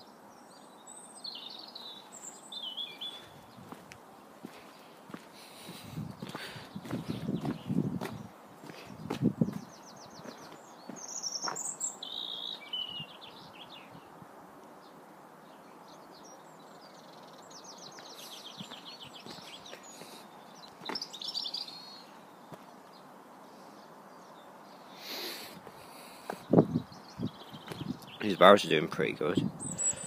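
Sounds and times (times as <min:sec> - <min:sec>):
faint background hiss: 0:00.0 - 0:30.0
songbirds trilling: 0:00.0 - 0:30.0.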